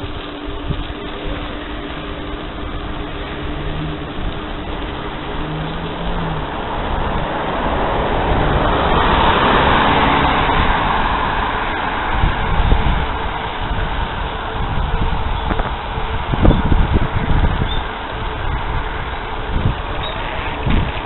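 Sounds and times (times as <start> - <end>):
low rumble of wind and road: 0.0 - 21.0
car overtaking: 1.0 - 21.0.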